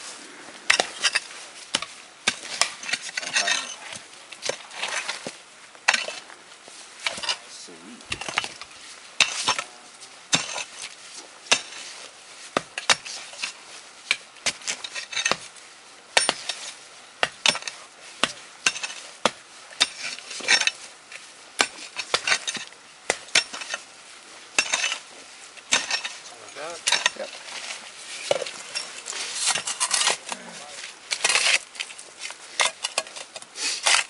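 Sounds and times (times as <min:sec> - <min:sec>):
metal tool striking rocky soil: 0:00.7 - 0:06.2, 0:07.0 - 0:07.4, 0:08.1 - 0:10.9, 0:11.5 - 0:15.5, 0:16.2 - 0:23.9, 0:24.5 - 0:34.0.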